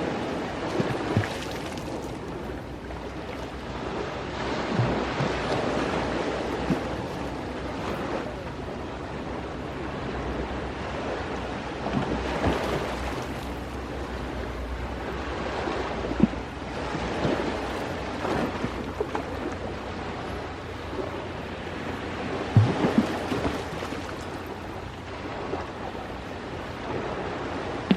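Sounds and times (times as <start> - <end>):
ocean waves on shore: 0.0 - 27.9
wind rumble on microphone: 0.0 - 27.9.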